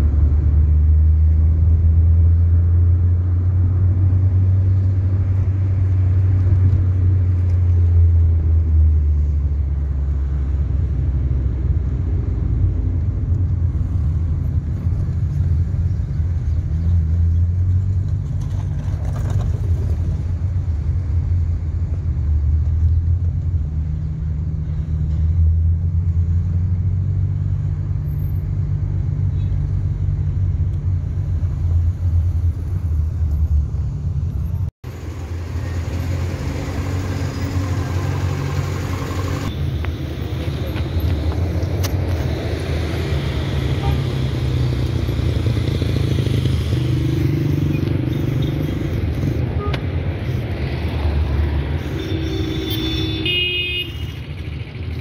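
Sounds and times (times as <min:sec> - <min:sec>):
cars driving past: 0:00.0 - 0:55.0.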